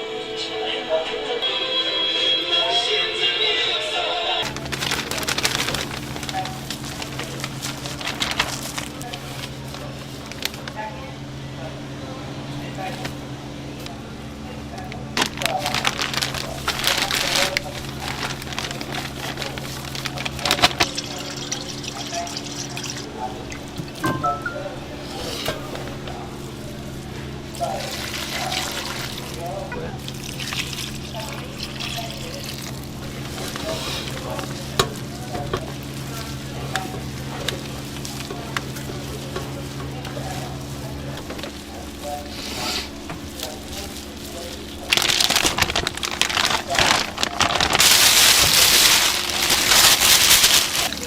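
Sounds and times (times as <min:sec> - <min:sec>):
kitchen equipment hum: 0:04.0 - 0:51.0.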